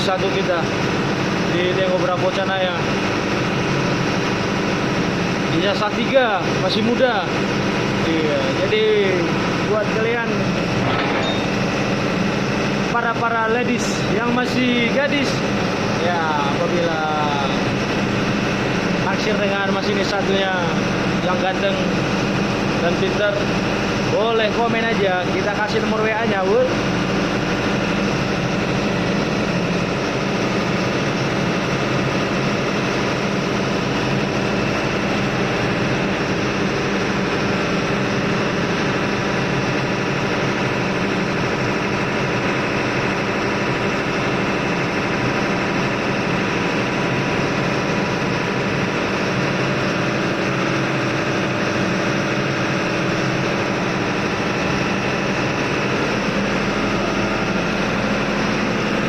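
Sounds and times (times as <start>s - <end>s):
ship engine-room machinery drone: 0.0s - 59.0s.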